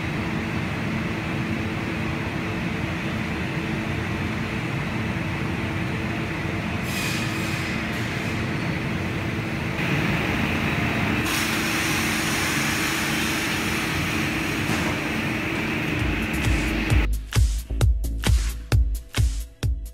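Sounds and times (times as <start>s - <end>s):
bandsaw machinery hum and rumble: 0.0s - 17.1s.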